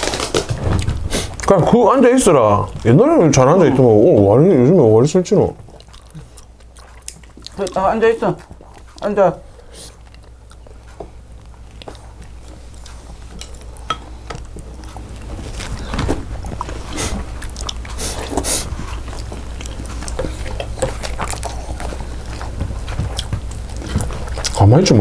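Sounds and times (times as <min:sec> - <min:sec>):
chewing: 0:00.0 - 0:25.0.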